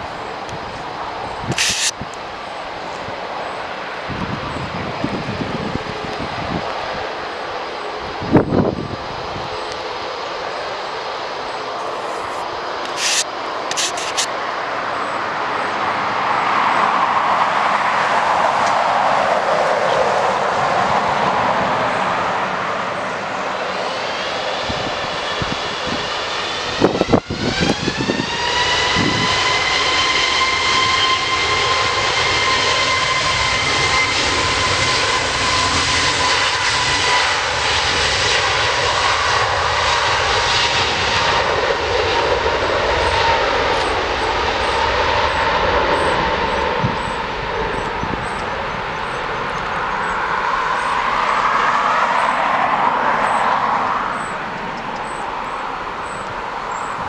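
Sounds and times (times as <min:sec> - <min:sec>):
jet engines roaring and whining: 0:00.0 - 0:57.0.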